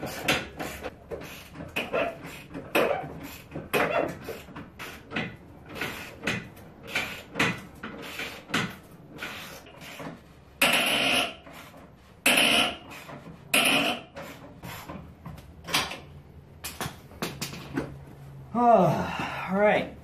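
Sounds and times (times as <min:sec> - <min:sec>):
metal clunks and scrapes: 0:00.0 - 0:16.2.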